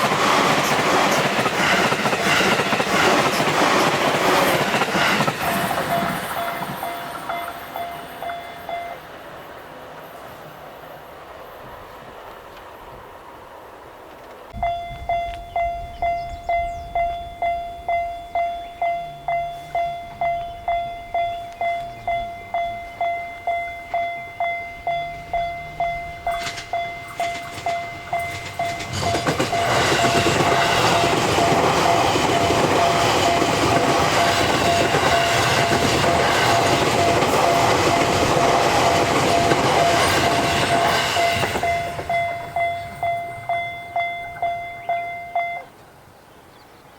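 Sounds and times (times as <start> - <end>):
railroad crossing bell clanging: 0.0 - 9.2, 14.6 - 45.8
train rumble and wheel clatter: 0.0 - 45.7.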